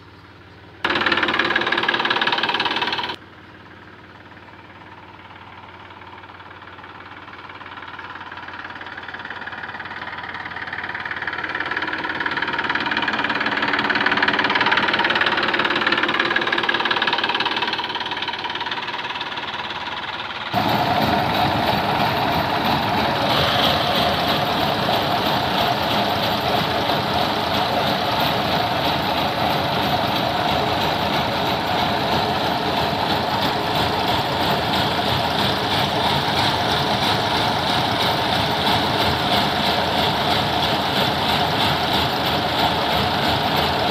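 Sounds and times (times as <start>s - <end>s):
threshing machine running: 0.8s - 3.2s, 5.5s - 43.9s
tractor diesel engines passing: 3.0s - 43.9s.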